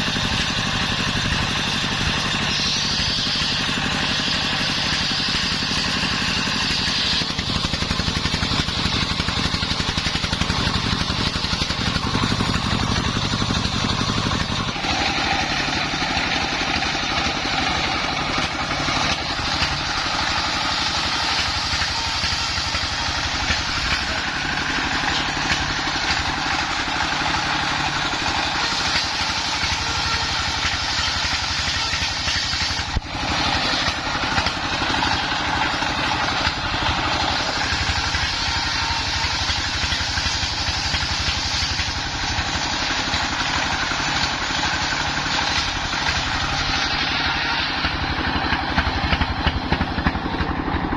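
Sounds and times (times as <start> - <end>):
circular saw blade ripping wood: 0.0 - 50.7
engine pulsing: 0.0 - 50.9.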